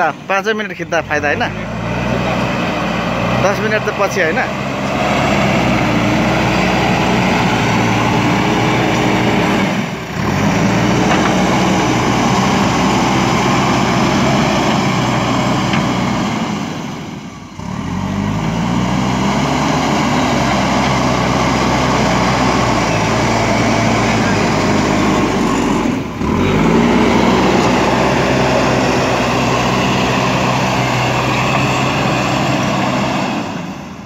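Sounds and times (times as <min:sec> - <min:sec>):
diesel engine working: 0:00.0 - 0:34.0.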